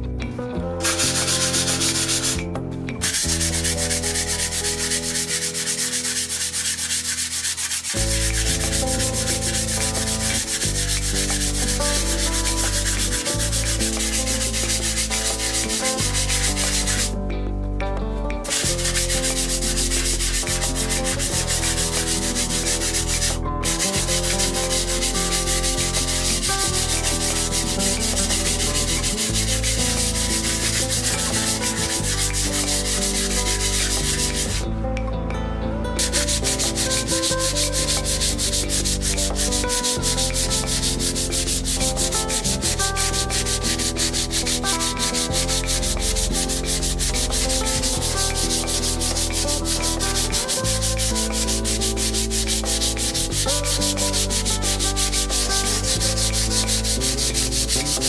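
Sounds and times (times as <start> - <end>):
sanding wall filler: 0.8 - 17.2, 18.4 - 34.6, 36.0 - 58.0.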